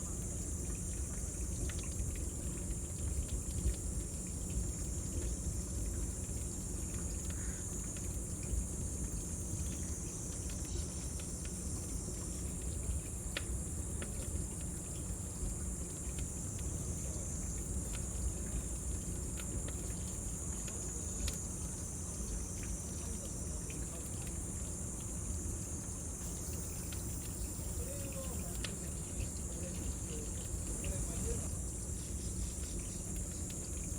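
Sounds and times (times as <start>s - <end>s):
cicadas buzzing: 4.5s - 33.9s.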